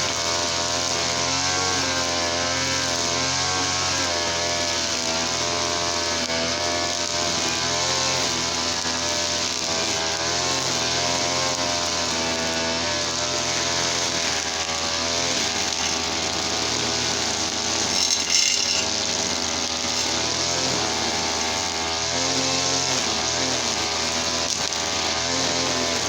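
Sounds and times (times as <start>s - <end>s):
brush cutter engine revving: 0.0s - 26.0s.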